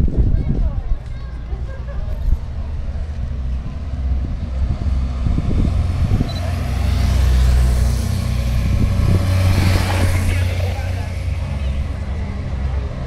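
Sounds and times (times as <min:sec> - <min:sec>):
steady low rumble: 0:00.0 - 0:13.0
motorcycle engines approaching: 0:01.4 - 0:13.0.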